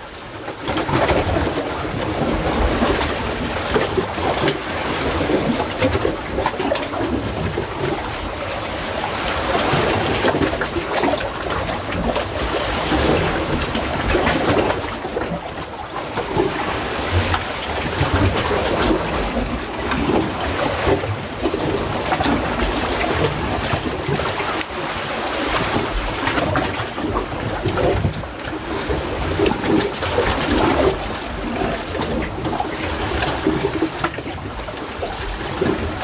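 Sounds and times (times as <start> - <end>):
seawater sloshing between rocks: 0.0 - 36.0.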